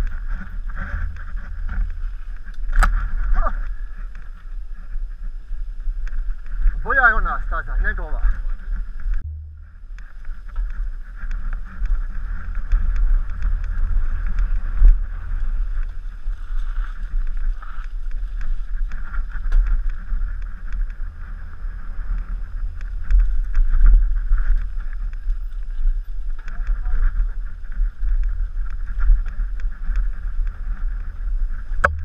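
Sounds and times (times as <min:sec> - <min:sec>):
bike rattling over ground: 0:00.0 - 0:32.0
wind rumble on microphone: 0:00.0 - 0:32.0.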